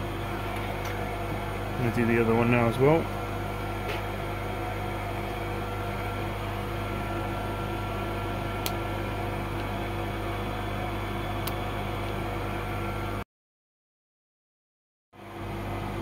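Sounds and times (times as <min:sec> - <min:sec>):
low electrical hum: 0:00.0 - 0:13.2.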